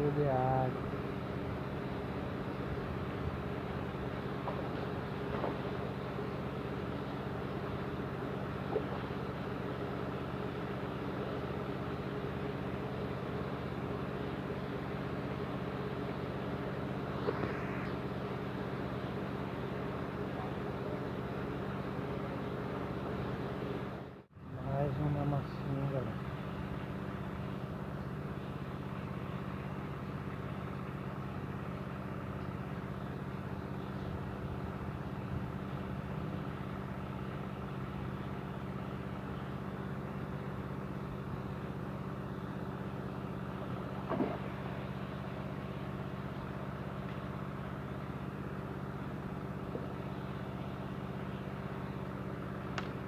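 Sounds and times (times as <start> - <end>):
pond aerator motor humming: 0.0 - 53.0.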